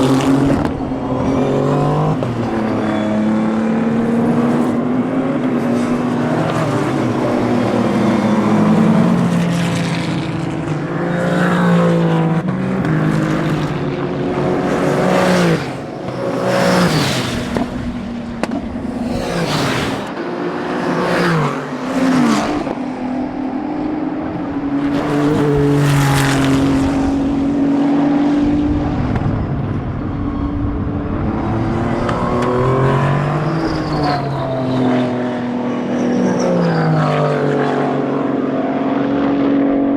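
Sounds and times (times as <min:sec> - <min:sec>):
race car engines revving: 0:00.0 - 0:39.9
race cars passing at speed: 0:00.0 - 0:39.9.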